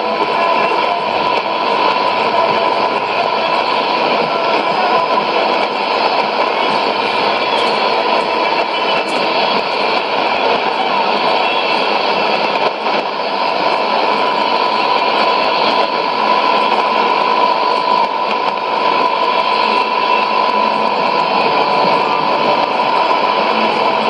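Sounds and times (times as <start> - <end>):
radio static and hiss: 0.0 - 24.0
steady whistle: 0.0 - 24.0.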